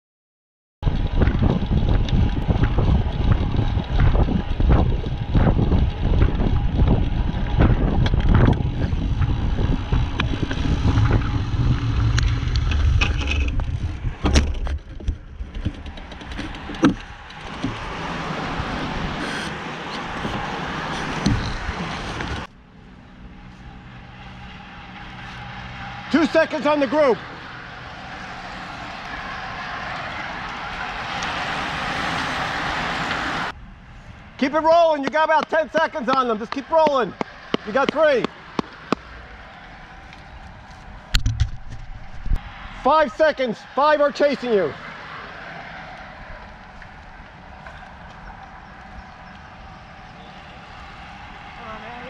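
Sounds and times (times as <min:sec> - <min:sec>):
wind buffeting microphone: 0:00.8 - 0:22.5, 0:27.6 - 0:52.0.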